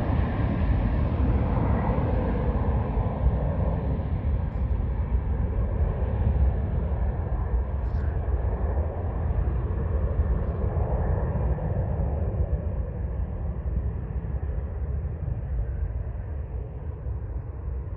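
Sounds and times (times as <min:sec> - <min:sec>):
jet engines rumbling at takeoff: 0:00.0 - 0:17.9.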